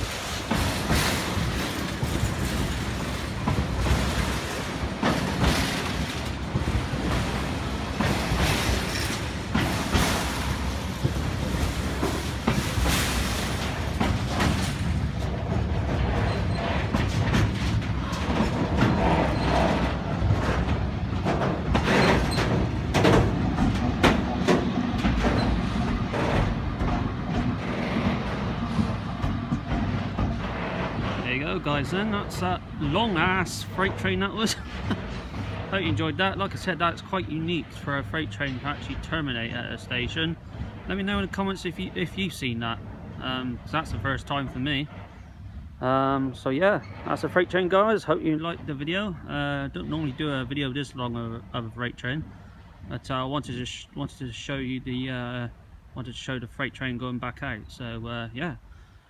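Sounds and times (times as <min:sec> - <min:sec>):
wagons rolling with rumble: 0:00.0 - 0:58.7
wheels clacking over rail joints: 0:00.0 - 0:58.8
diesel locomotive: 0:00.0 - 0:59.0.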